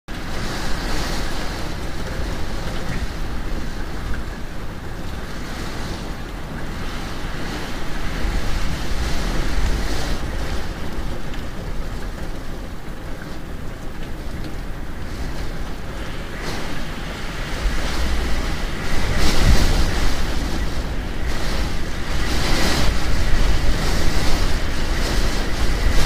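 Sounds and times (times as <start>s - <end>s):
heavy rain: 0.1s - 26.0s.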